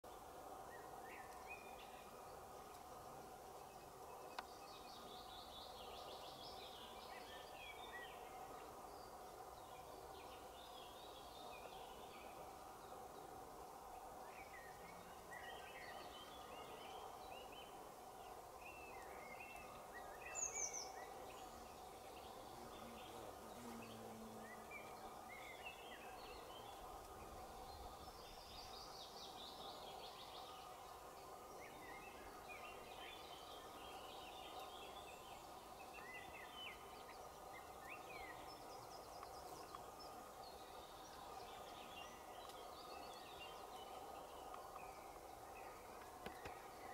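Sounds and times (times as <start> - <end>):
small birds chirping and singing: 0.1 - 46.9.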